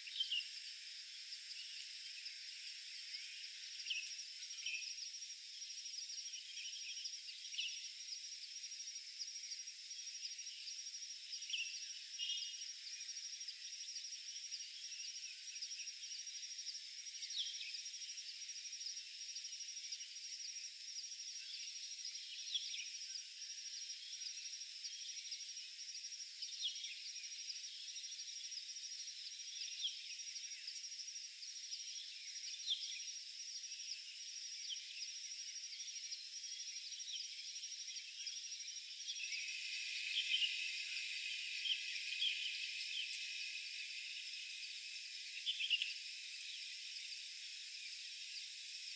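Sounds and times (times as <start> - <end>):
insects trilling: 0.0 - 48.9.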